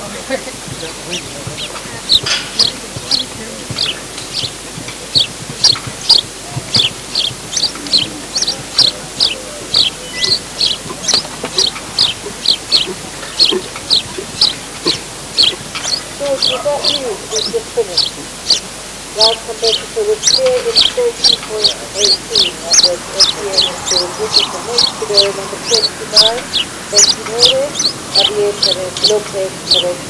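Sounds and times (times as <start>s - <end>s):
small bird chirping: 0.6s - 30.0s.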